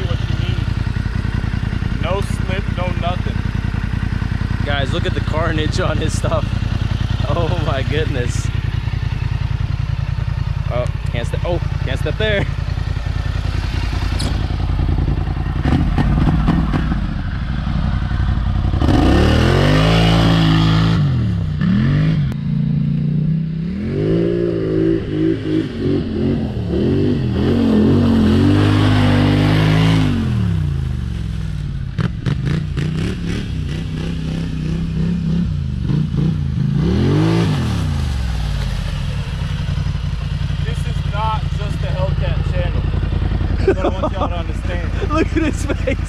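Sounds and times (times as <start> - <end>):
atv engine revving: 0.0 - 46.0.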